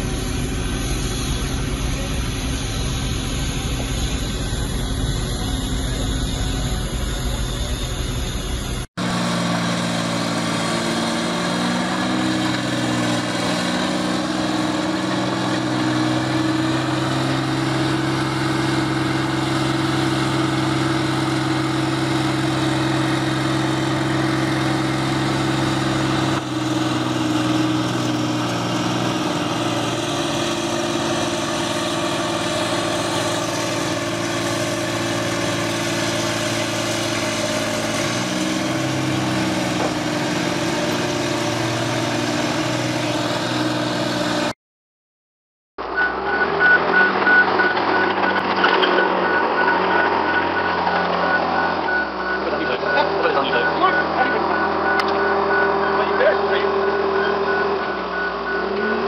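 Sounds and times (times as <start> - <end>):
diesel engine running: 0.0 - 44.6, 45.8 - 59.0.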